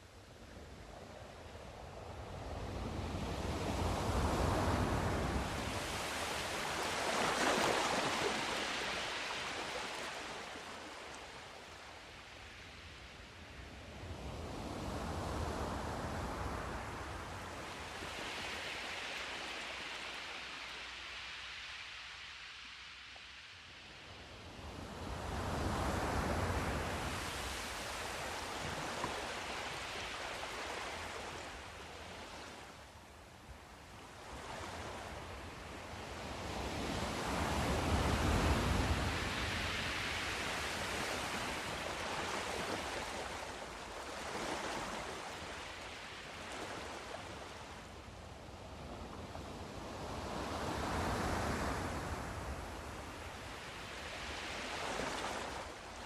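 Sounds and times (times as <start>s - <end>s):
waves breaking on shore: 2.2s - 56.0s.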